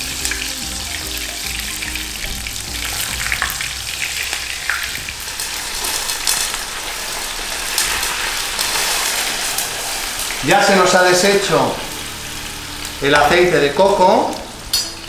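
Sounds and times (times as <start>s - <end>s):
prawns deep-frying in hot oil: 0.0s - 15.0s.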